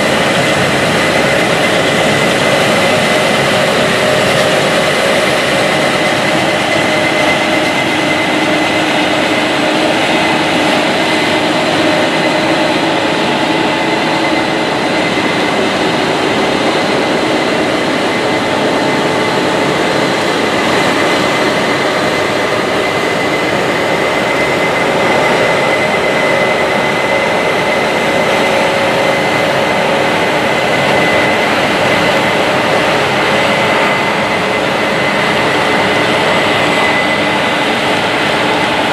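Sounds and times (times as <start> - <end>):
diesel engines and threshing machinery: 0.0 - 38.9
high machinery whine: 0.0 - 38.9.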